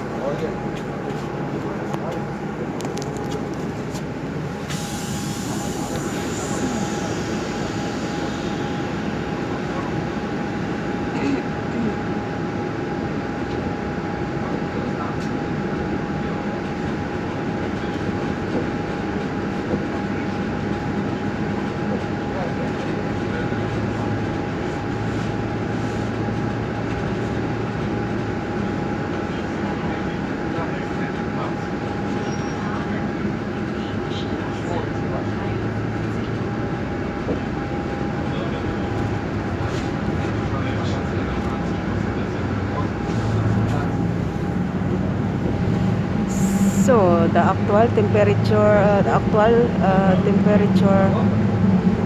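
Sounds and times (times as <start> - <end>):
bus engine and rolling noise: 0.0 - 52.0
road rumble: 0.0 - 52.0
thin steady whine: 0.0 - 52.0.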